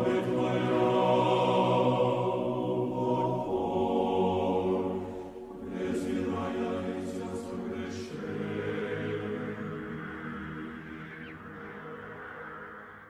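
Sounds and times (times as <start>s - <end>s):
choir chanting held chords: 0.0s - 13.0s.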